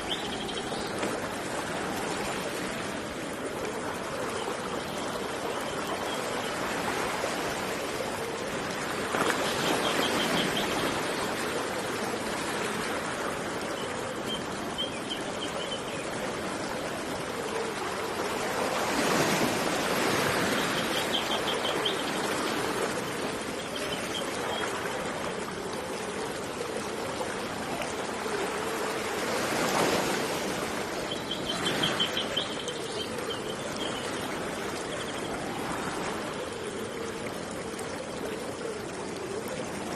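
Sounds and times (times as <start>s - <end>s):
rush of running water: 0.0s - 39.9s.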